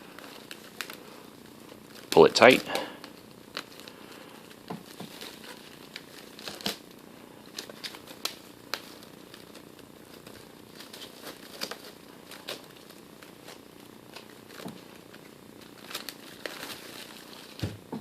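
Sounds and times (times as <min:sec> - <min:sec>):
cling wrap crinkling: 0:00.0 - 0:18.0.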